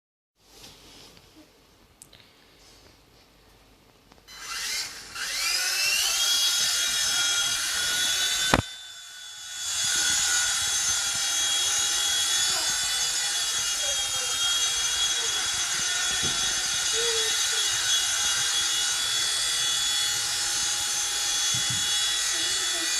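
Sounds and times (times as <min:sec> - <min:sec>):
toy helicopter motor whine: 0:04.3 - 0:22.9.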